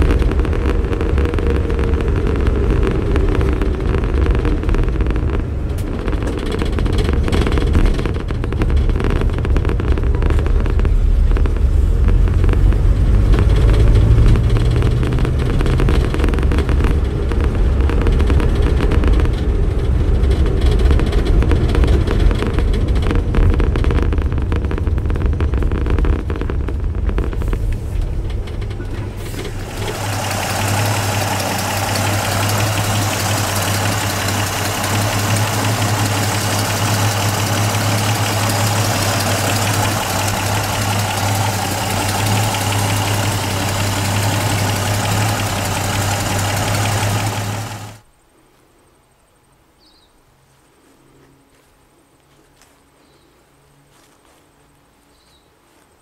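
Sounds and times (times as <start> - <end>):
car engine: 0.0 - 48.1
engine hiss: 0.0 - 48.1
road noise: 0.0 - 49.6.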